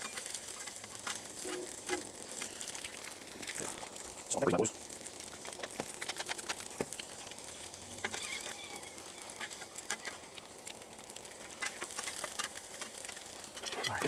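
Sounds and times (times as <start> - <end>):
food sizzling on griddle: 0.0 - 14.0
grease crackling and popping: 0.0 - 14.0.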